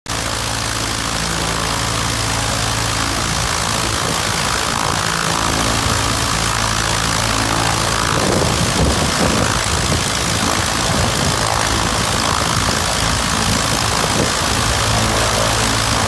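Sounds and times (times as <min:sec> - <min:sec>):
light aircraft engine running: 0:00.1 - 0:16.0.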